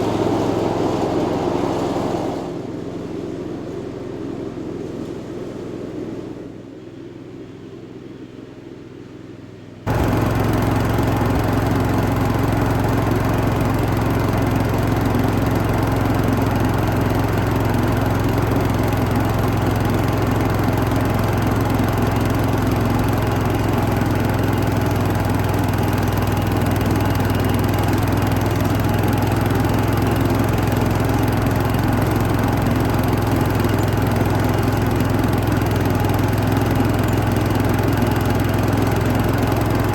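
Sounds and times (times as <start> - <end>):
garden tractor engine mowing: 0.0 - 5.2, 9.9 - 39.9.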